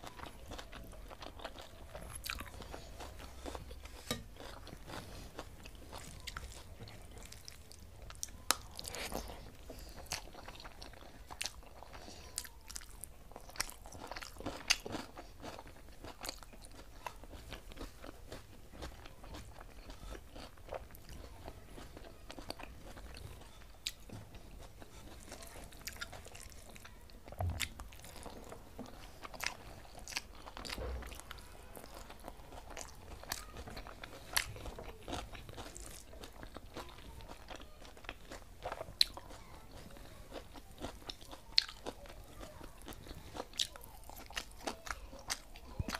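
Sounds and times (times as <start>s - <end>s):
chewing and mouth clicks: 0.0s - 45.9s.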